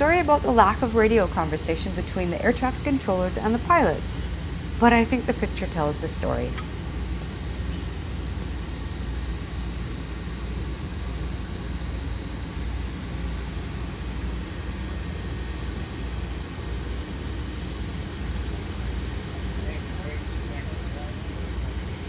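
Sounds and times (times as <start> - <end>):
turboprop engine droning: 0.0 - 22.0.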